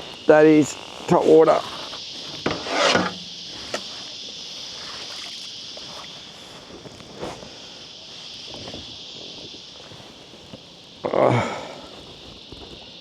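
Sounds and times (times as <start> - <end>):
cicada chorus drone: 0.0 - 13.0.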